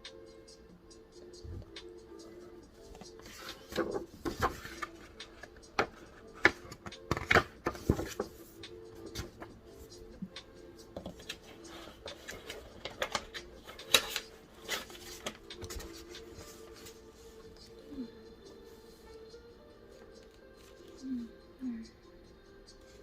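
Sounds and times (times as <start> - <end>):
faint steady background tones: 0.0 - 23.0.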